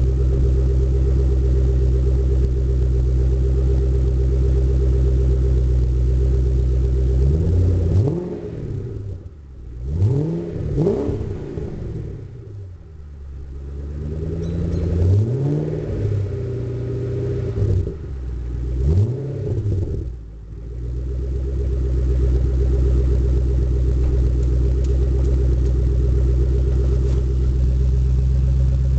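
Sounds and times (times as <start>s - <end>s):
car engine revving and idling: 0.0s - 28.9s.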